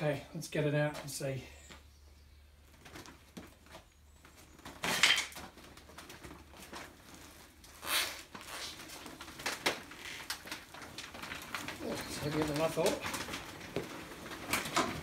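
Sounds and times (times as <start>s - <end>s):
plastic groundsheet rustling: 2.6s - 15.0s.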